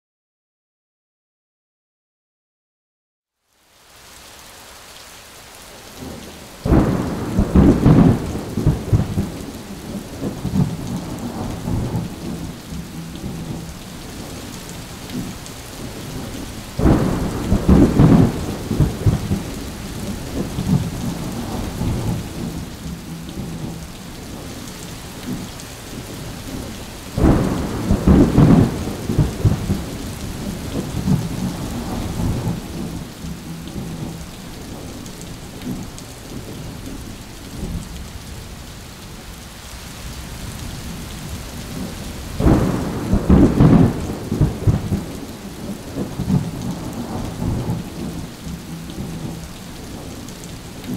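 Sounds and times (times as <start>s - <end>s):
steady rain: 3.3s - 50.9s
thunder rumbling: 6.0s - 38.0s, 40.1s - 50.9s.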